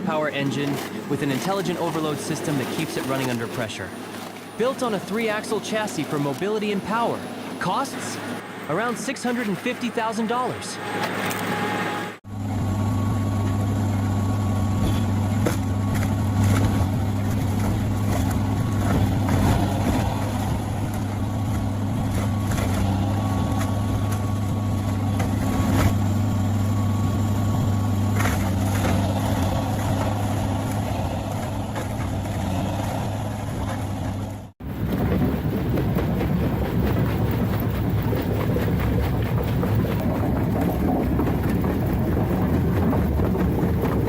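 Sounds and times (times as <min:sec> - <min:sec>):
shredder diesel engine humming: 0:00.0 - 0:44.0.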